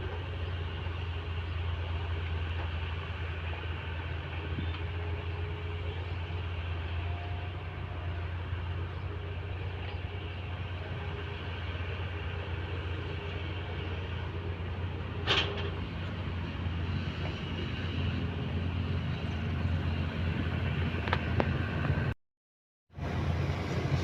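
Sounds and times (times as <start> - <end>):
diesel engine droning: 0.0 - 22.2, 22.9 - 24.0.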